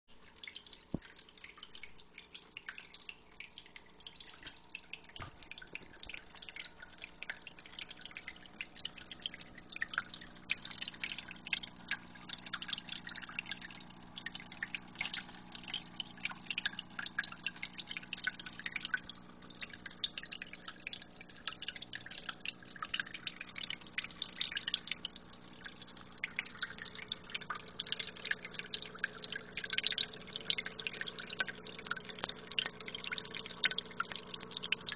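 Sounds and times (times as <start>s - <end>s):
low steady hum: 0.1s - 34.9s
water dripping and trickling: 0.1s - 34.9s.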